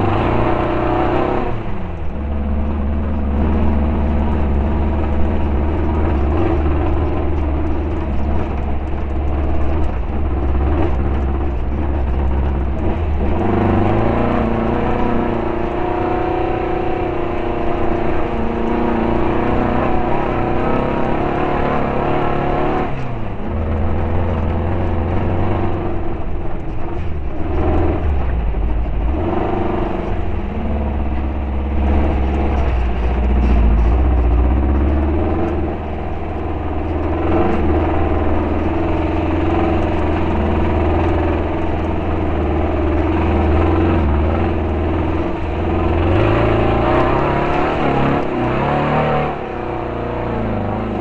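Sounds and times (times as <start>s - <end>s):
misfiring race car engine: 0.0s - 51.0s.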